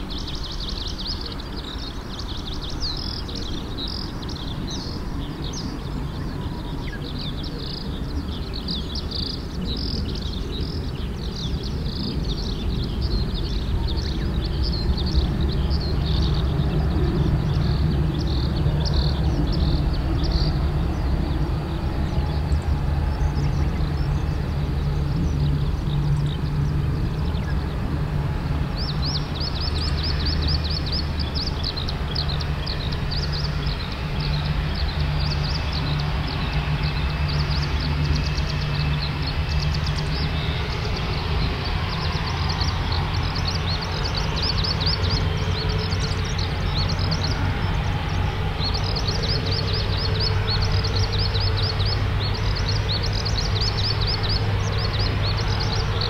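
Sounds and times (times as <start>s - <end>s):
airliner taxiing hum: 0.0s - 56.0s.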